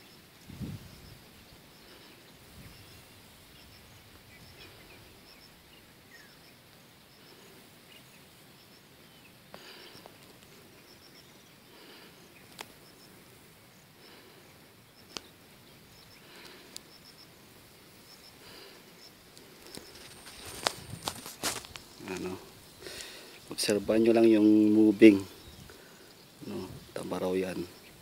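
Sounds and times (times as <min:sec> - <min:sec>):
insects: 0:00.0 - 0:28.0.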